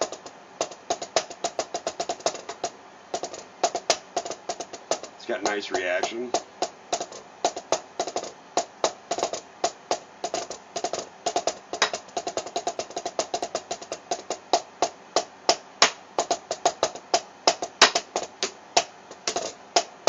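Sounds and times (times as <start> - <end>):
drumsticks tapping practice pad: 0.0 - 20.0.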